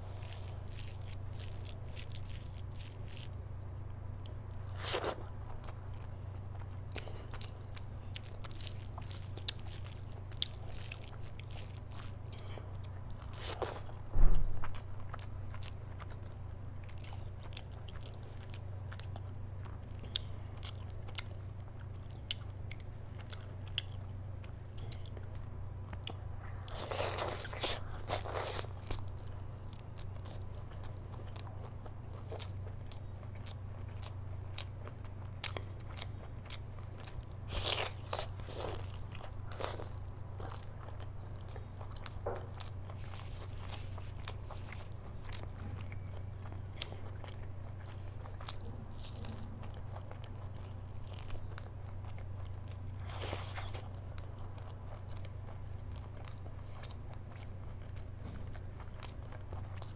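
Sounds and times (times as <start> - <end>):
biting and chewing meat: 0.0 - 59.9
steady low hum: 0.0 - 59.9.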